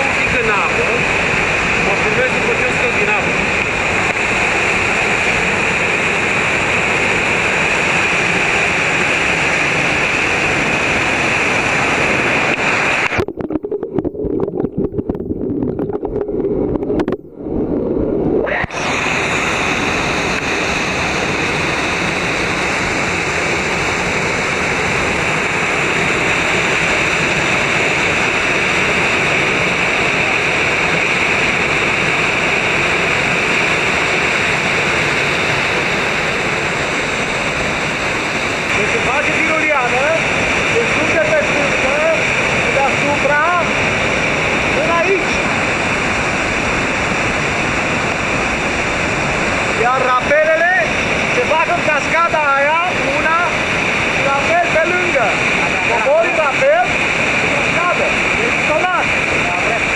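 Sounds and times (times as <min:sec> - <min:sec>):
waterfall rushing over rock: 0:00.0 - 0:15.2, 0:18.5 - 0:59.9.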